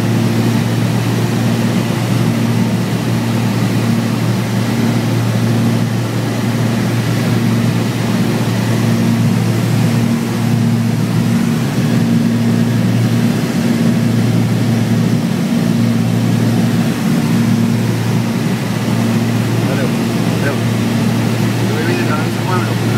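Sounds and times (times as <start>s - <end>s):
aircraft engine drone in cabin: 0.0s - 22.9s.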